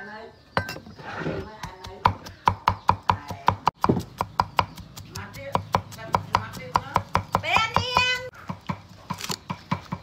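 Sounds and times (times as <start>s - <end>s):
cleaver chopping on wooden block: 1.6s - 10.0s.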